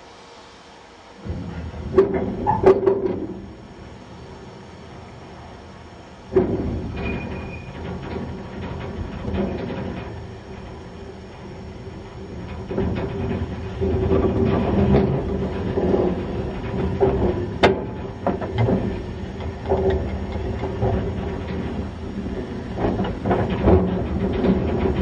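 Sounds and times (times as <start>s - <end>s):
steam locomotive rumble: 0.0s - 25.0s
metal clanks and knocks: 1.2s - 3.6s, 6.3s - 25.0s.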